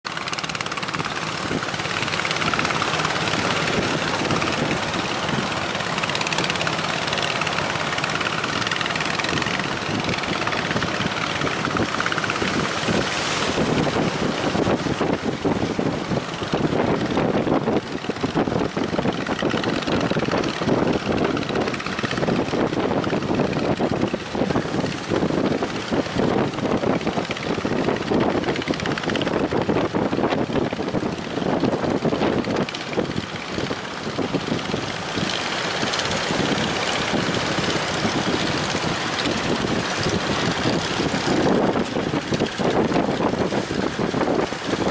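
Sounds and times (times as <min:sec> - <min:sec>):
wind buffeting microphone: 0:00.1 - 0:44.9.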